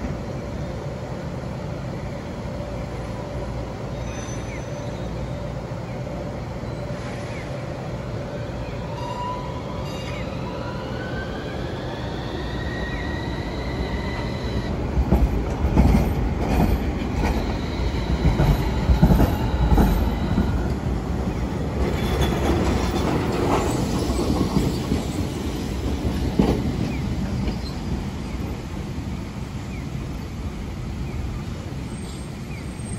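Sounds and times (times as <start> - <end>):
tram motor whine: 0.0 - 26.4.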